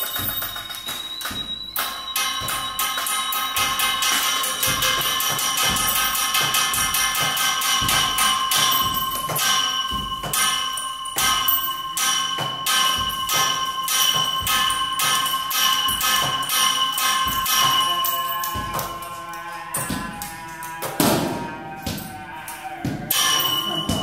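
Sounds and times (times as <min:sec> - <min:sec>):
metal tapped as percussion: 0:00.0 - 0:24.0
metallic ringing tones: 0:00.0 - 0:24.0.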